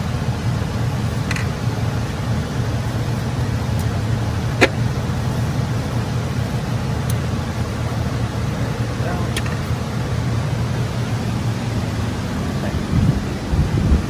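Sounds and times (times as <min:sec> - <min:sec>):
workshop machinery hum: 0:00.0 - 0:14.0.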